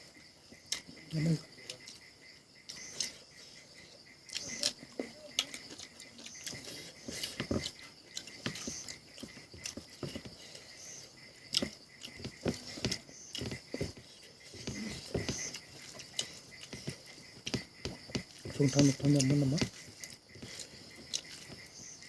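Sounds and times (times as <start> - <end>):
crickets chirping: 0.0 - 22.0
chewing and lip smacking: 0.4 - 2.1, 2.7 - 21.8.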